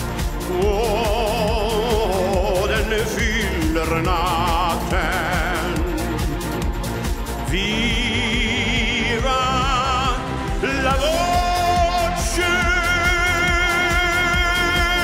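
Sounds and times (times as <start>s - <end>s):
band accompaniment: 0.0s - 15.0s
man singing with vibrato: 0.3s - 6.5s, 7.4s - 15.0s.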